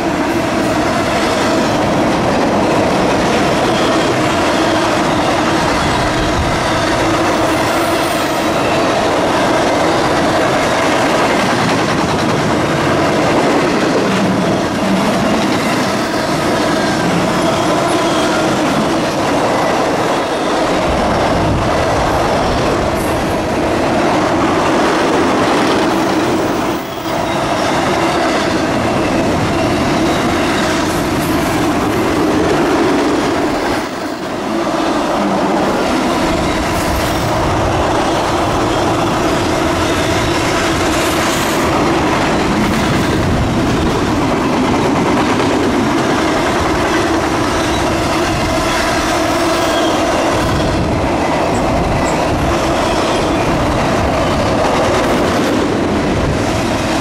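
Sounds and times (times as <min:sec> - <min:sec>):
freight train wheels clattering on rails: 0:00.0 - 0:57.0.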